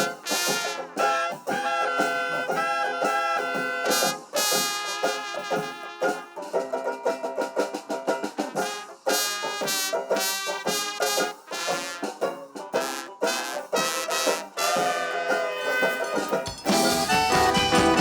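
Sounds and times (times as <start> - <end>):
instrumental band music: 0.0 - 18.0.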